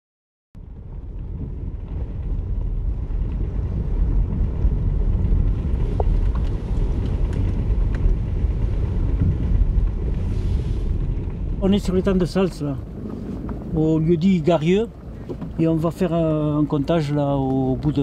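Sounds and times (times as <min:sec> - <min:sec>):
car engine and tyres rumbling: 0:00.6 - 0:18.0.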